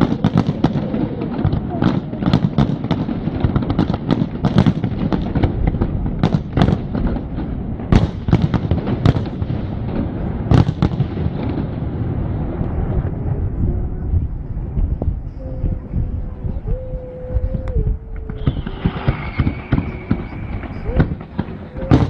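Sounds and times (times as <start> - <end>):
fireworks bursting with sharp bangs: 0.0 - 15.9, 17.6 - 22.0
continuous low rumble: 0.0 - 22.0.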